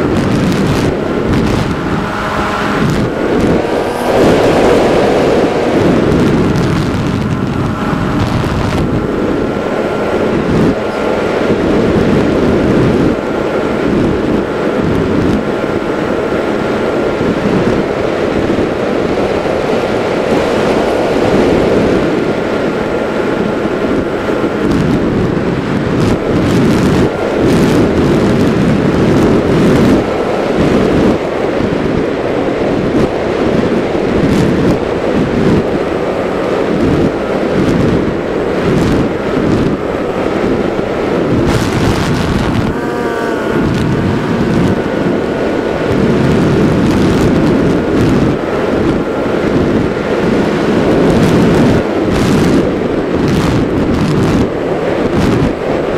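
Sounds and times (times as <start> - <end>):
propeller motor whine: 0.0 - 55.9
wind rushing over microphone: 0.0 - 55.9.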